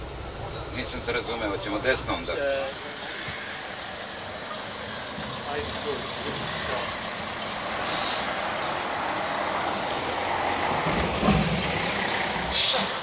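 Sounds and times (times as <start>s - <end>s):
bus engine rumble: 0.0s - 13.0s
traffic noise: 0.0s - 13.0s.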